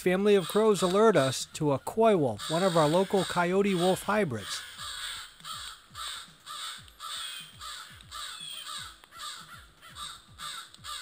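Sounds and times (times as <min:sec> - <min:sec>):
crows cawing: 0:00.1 - 0:01.4, 0:02.2 - 0:11.0.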